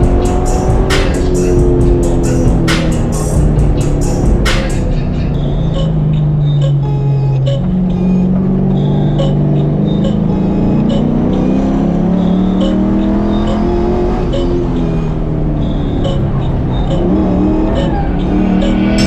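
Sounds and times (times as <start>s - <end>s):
music with a steady beat: 0.0s - 19.0s
truck engine accelerating: 0.0s - 19.0s.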